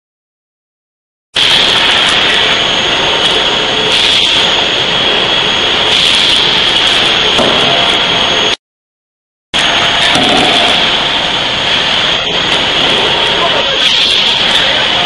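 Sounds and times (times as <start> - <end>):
forging machine whine: 1.4 - 8.6, 9.6 - 15.0.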